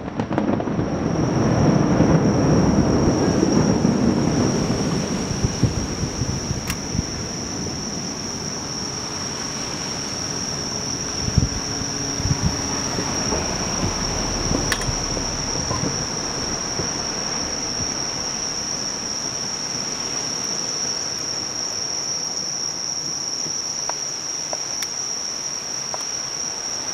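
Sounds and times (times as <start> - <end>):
crickets chirring: 0.0 - 26.9.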